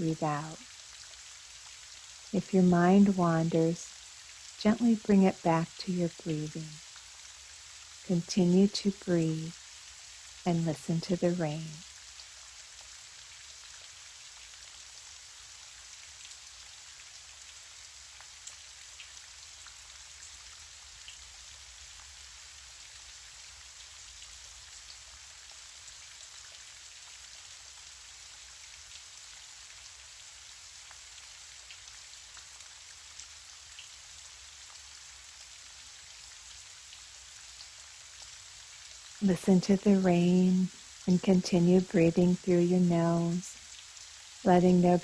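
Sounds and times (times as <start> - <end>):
gentle rain falling: 0.0 - 45.0.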